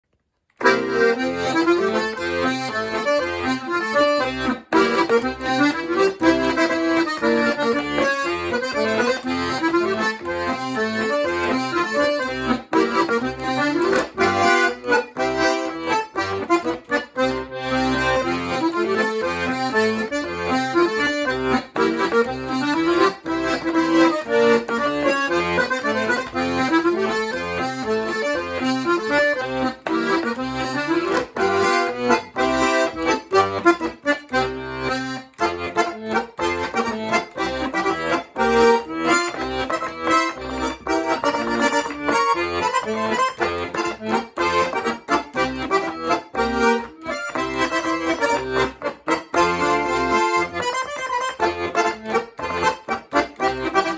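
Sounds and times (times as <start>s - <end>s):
accordion playing polka: 0.6s - 53.9s.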